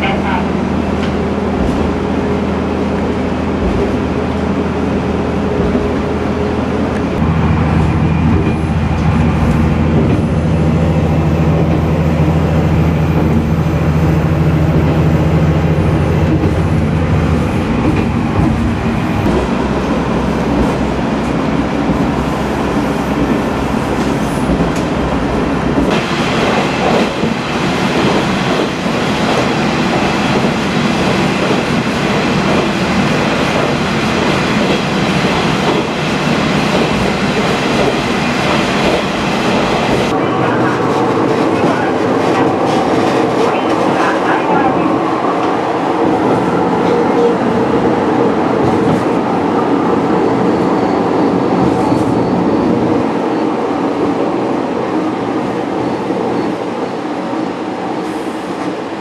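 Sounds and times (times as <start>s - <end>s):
rattling wheel and rail noise: 0.0s - 59.0s.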